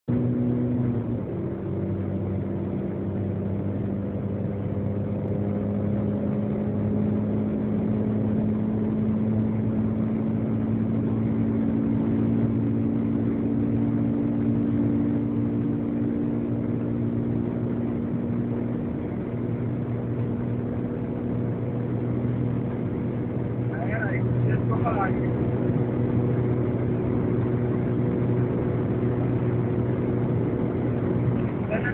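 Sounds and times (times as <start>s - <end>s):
road noise: 0.0s - 31.9s
turbocharged car engine drone: 0.0s - 31.9s.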